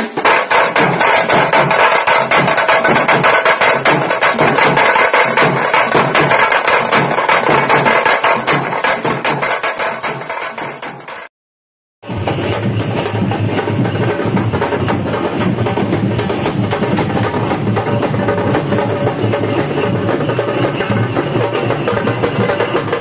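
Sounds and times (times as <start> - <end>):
fast busy drumming music: 0.0 - 11.3, 12.0 - 23.0.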